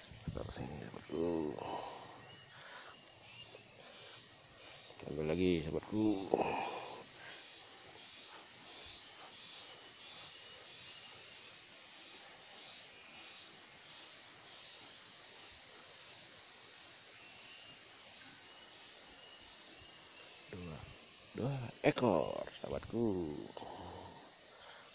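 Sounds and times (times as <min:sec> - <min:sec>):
insects whining and trilling: 0:00.0 - 0:24.9.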